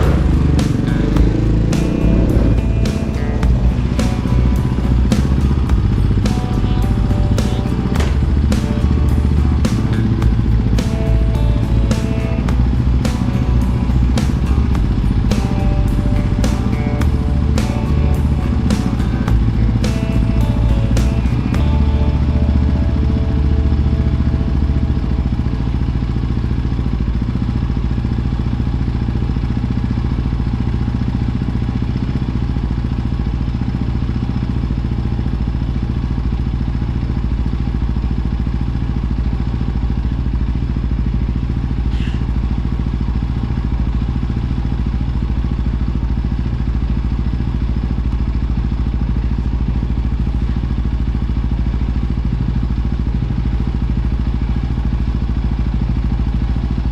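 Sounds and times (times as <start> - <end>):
small engine running: 0.0 - 56.9.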